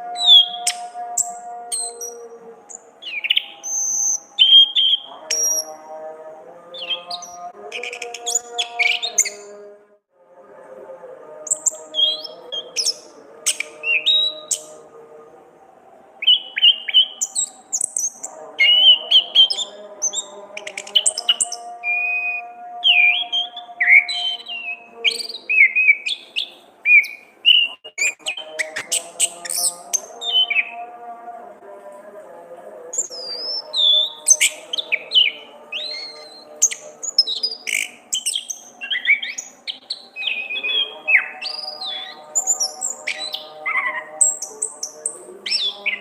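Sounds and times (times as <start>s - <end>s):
thrush singing: 0.0s - 46.0s.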